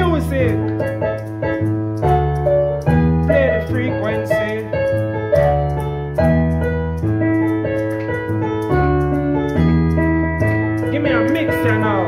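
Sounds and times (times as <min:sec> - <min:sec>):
electronic keyboard chords: 0:00.0 - 0:12.0.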